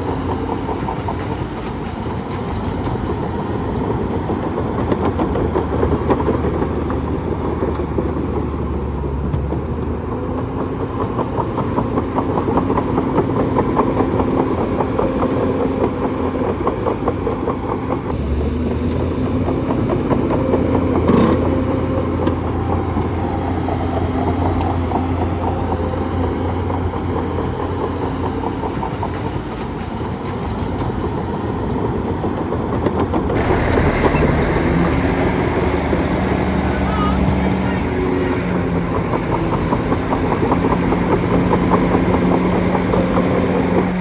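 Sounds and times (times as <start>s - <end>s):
bulldozer engine running: 0.0s - 44.0s.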